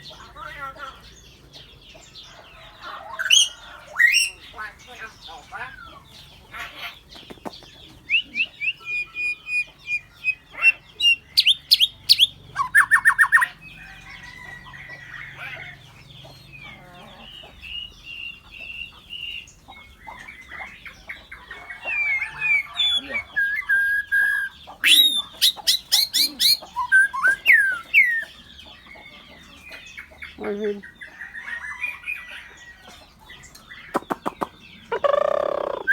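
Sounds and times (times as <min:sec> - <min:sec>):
birds singing and calling: 0:00.0 - 0:35.9.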